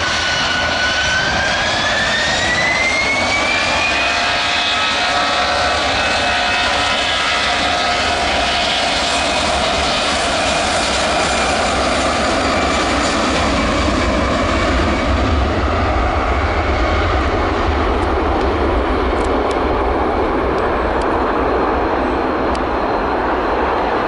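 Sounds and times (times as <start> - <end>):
deep rumble of passing jet: 0.0 - 24.0
high engine whine: 0.0 - 24.0
jet engines roaring: 0.0 - 24.0.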